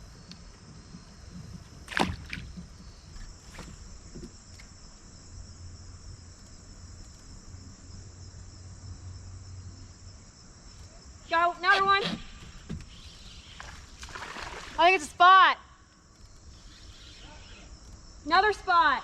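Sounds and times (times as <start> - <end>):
insects chirping chorus: 0.0 - 19.0.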